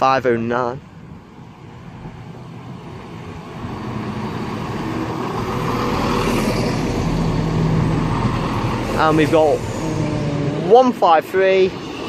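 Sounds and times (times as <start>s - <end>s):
diesel train engine: 0.0s - 12.0s
steady engine hum: 0.0s - 12.0s
train wheel noise: 1.0s - 12.0s.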